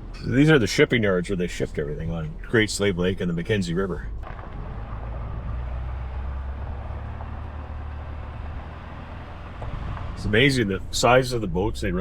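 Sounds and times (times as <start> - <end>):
vehicle engine and road hum: 0.0 - 12.0.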